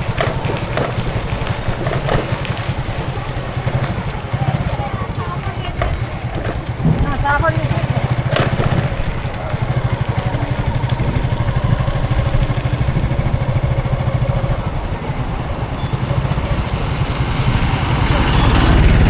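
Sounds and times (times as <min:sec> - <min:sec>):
road traffic: 0:00.0 - 0:19.0
vehicle engine rumble: 0:00.0 - 0:19.0.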